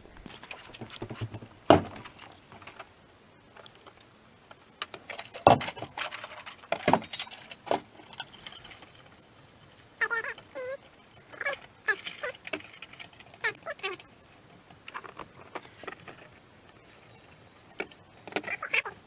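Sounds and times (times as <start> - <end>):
metal parts and tools clinking: 0.3 - 3.0, 3.6 - 19.0.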